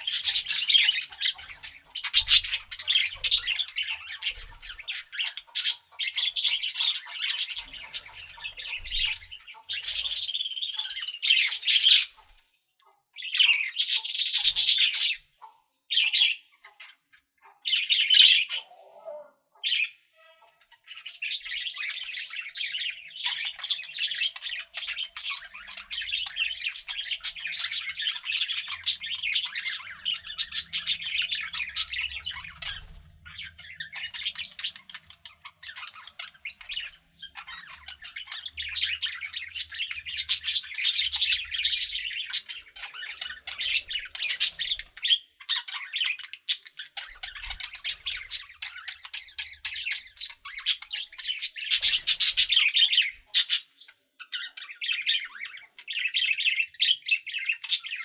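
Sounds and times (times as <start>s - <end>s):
budgerigars chattering: 0.0s - 12.4s, 13.2s - 58.0s.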